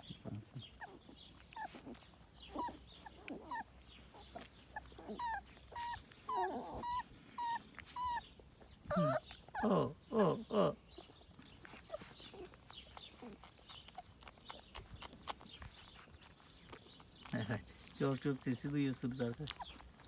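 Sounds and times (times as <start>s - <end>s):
puppies whimpering and squealing: 0.0s - 20.0s.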